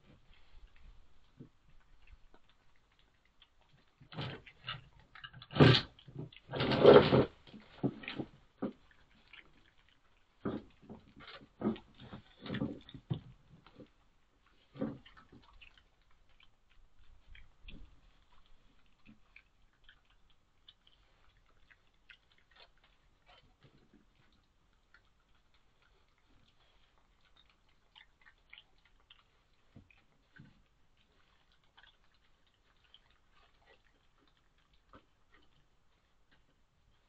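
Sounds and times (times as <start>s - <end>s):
animals crunching food: 0.0s - 37.0s.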